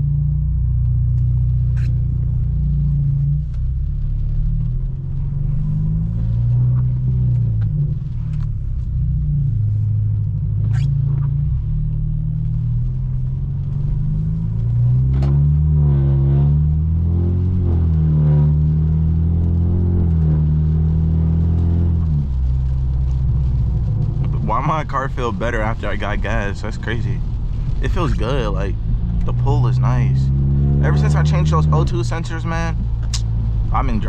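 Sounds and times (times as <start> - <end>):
car exhaust rumbling drone: 0.0 - 34.0.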